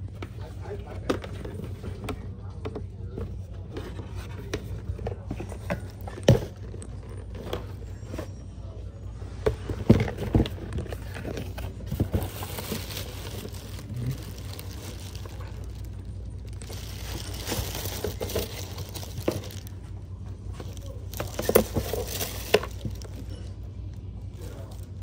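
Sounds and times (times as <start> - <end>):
steady low hum: 0.0 - 25.0
objects being handled: 0.1 - 8.4, 9.2 - 23.7.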